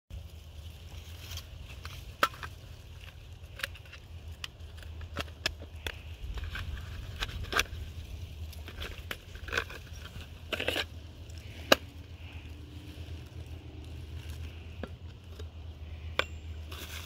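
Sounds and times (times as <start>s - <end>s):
wood shavings rustling: 0.1s - 17.0s.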